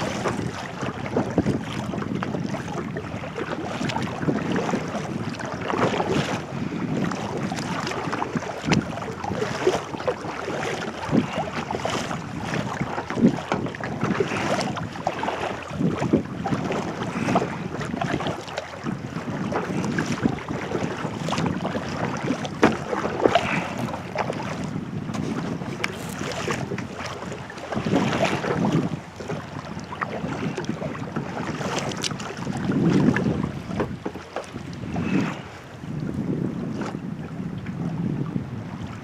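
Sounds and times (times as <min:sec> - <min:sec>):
water splashing around kayak: 0:00.0 - 0:39.0
wind buffeting microphone: 0:00.0 - 0:39.0.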